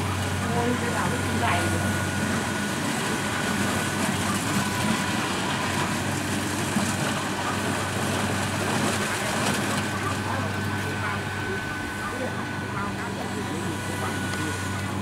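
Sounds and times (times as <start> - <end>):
diesel engine drone: 0.0 - 15.0
high steady whine: 0.0 - 15.0.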